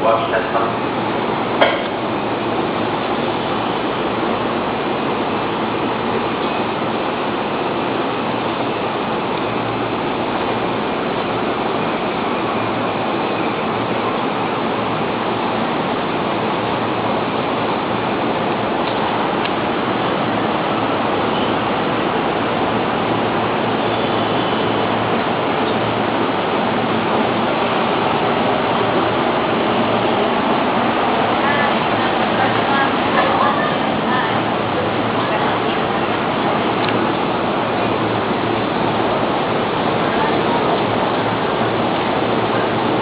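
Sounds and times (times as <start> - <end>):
steady rushing noise: 0.0 - 43.0.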